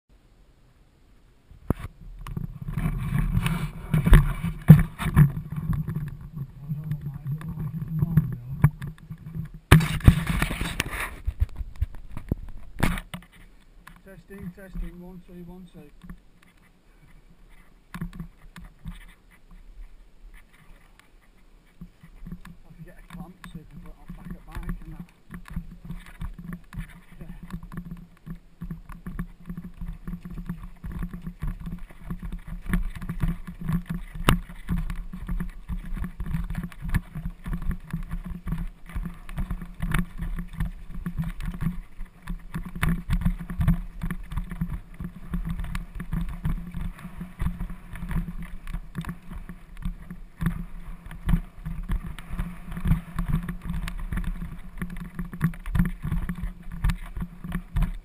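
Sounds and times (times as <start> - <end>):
constant low rumble: 0.1 - 58.0
mountain bike rattling over rocks: 1.8 - 16.3, 21.7 - 58.0.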